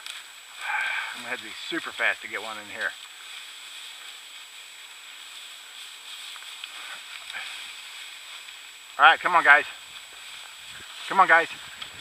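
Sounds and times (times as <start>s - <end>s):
dry grass crackling: 0.0s - 12.0s
steady hiss: 0.0s - 12.0s.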